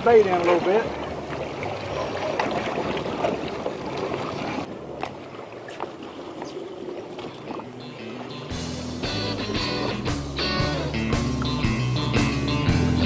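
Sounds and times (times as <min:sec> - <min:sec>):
muffled underwater sound: 0:00.0 - 0:11.2
faint underwater clicks: 0:00.0 - 0:12.0
wind and sea rushing: 0:00.0 - 0:12.6.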